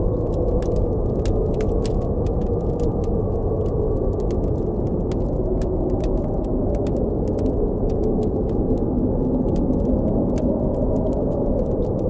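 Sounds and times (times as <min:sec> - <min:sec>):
campfire crackling: 0:00.0 - 0:12.0
deep blizzard wind: 0:00.0 - 0:12.0.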